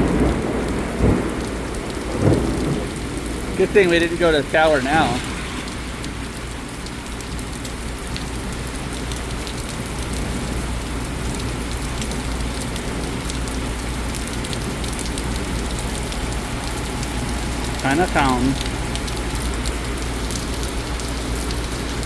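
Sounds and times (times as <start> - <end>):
heavy rain hiss: 0.0 - 22.0
raindrops ticking nearby: 0.0 - 22.0.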